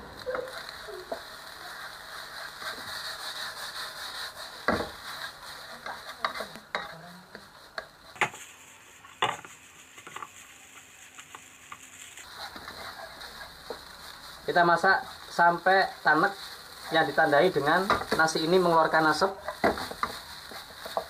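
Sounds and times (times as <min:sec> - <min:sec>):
rice sizzling in a wok: 0:00.0 - 0:21.0
spatula stirring and scraping: 0:00.0 - 0:21.0.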